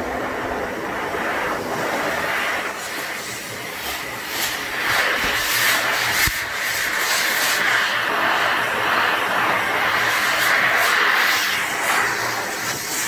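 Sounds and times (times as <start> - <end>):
dog dryer blowing air: 0.0 - 13.0.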